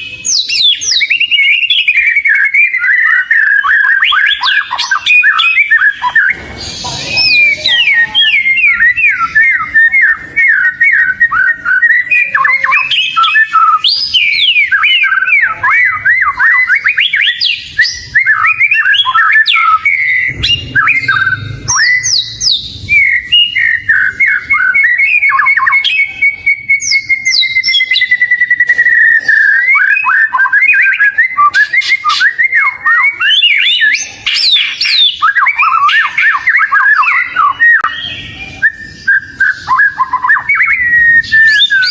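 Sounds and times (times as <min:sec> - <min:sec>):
bird whistling and chirping: 0:00.0 - 0:41.9.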